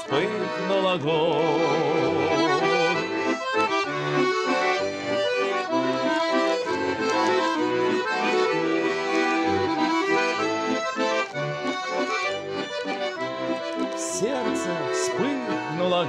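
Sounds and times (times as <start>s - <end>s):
button accordion playing folk melody: 0.0s - 16.0s.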